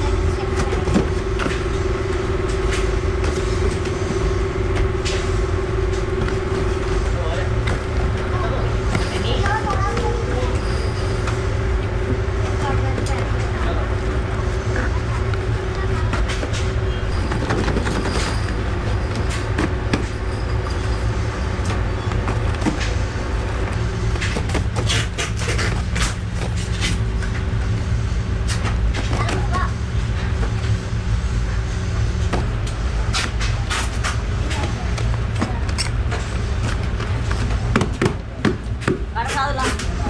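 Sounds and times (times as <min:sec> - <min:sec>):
workshop machinery humming: 0:00.0 - 0:40.0.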